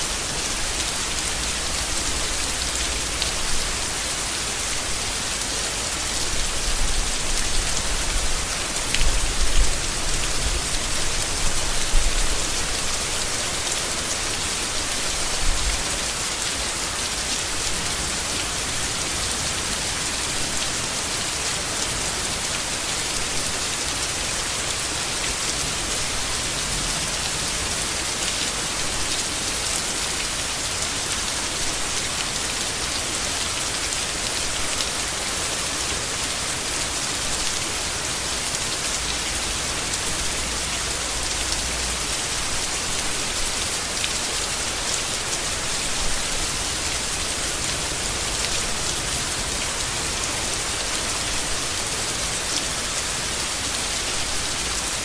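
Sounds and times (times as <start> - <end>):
heavy rain on leaves: 0.0 - 55.0.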